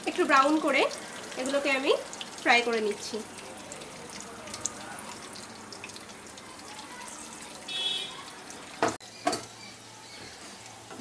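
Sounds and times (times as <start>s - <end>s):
egg sizzling in hot oil: 0.0s - 11.0s.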